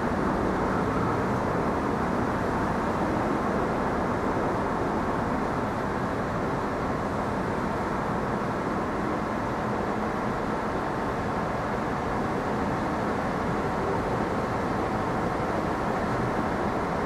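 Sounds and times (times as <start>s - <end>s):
subway train rumbling on rails: 0.0s - 17.0s.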